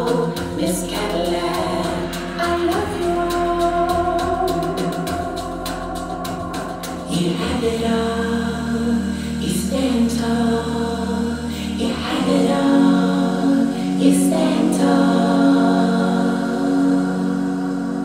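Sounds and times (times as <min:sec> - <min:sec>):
choral music over speakers: 0:00.0 - 0:18.0
low bass note: 0:00.0 - 0:18.0.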